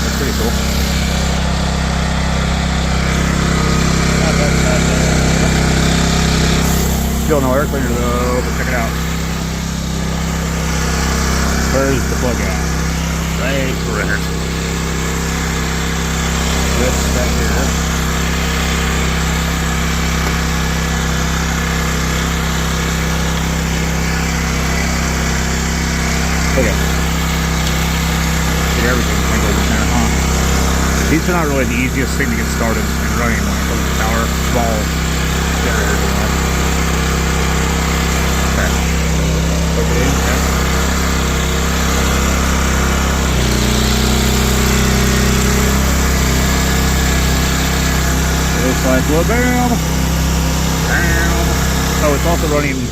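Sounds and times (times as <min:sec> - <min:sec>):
portable generator engine running: 0:00.0 - 0:52.9.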